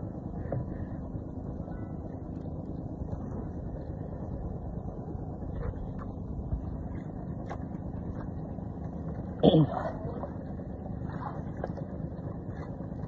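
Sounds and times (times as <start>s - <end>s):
low steady hum: 0.0s - 13.0s
sea noise: 0.0s - 13.0s
wind: 0.0s - 13.0s.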